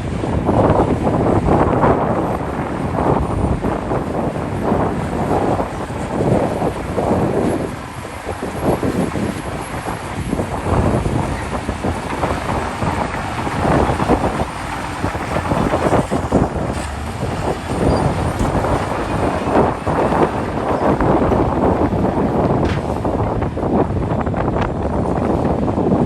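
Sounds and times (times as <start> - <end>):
bulldozer engine and tracks: 0.0 - 26.0.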